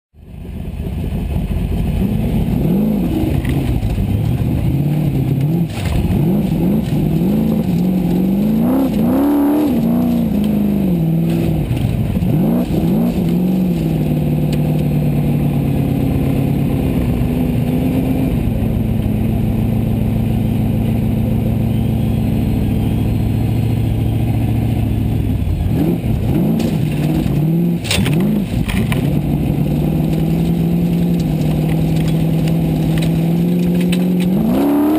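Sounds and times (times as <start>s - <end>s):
car engine revving: 0.2s - 34.9s.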